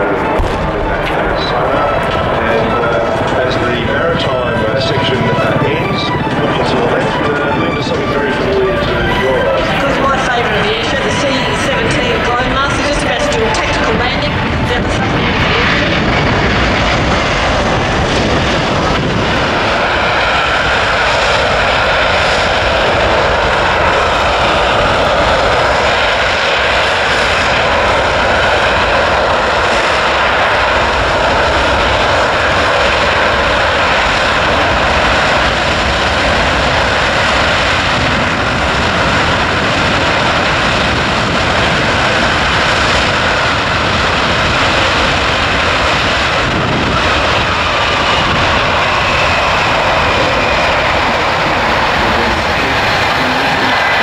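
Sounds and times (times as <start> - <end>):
faint engine whine: 0.0 - 54.0
jet engines running loud: 0.0 - 54.0.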